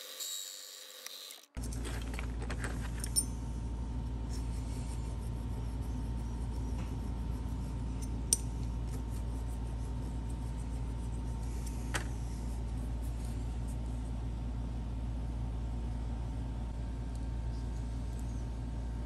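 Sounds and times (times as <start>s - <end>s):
low hum: 1.6s - 19.0s.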